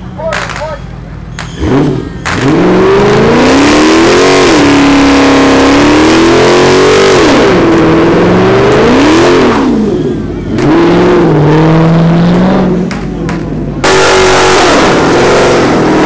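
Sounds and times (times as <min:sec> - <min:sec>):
car engine revving: 0:00.4 - 0:16.0.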